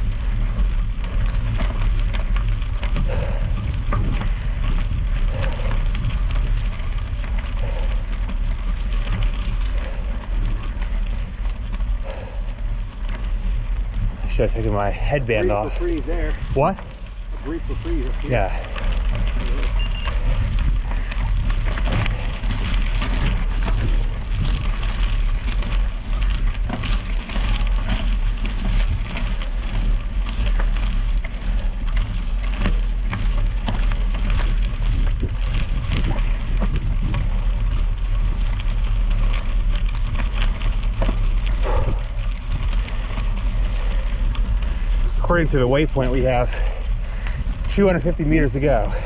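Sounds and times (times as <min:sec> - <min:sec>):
bicycle tyres crunching on gravel: 0:00.0 - 0:49.0
wind rumble on microphone: 0:00.0 - 0:49.0.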